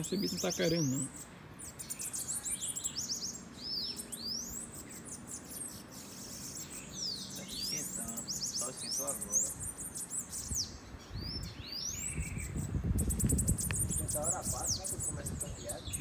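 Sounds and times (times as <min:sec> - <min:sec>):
birds singing high chirps: 0:00.0 - 0:16.0.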